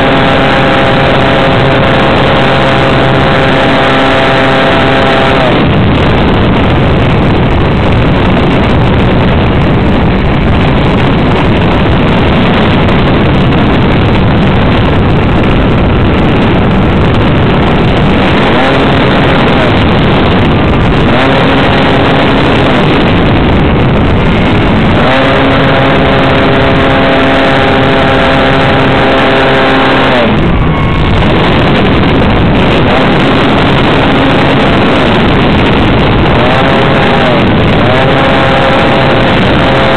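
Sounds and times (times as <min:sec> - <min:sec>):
model aircraft engine: 0:00.0 - 0:39.9
wind rush: 0:00.0 - 0:39.9.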